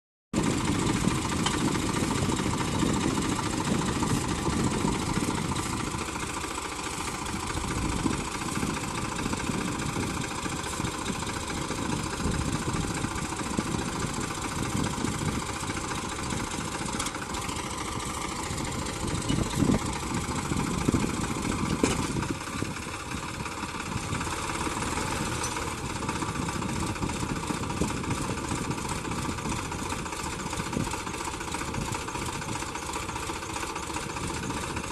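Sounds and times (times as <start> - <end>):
diesel tractor engine running: 0.4 - 34.9.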